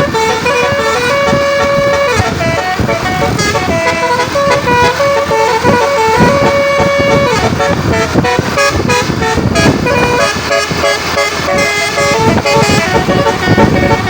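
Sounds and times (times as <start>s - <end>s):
multi-tone bus air horn tune: 0.0s - 14.0s.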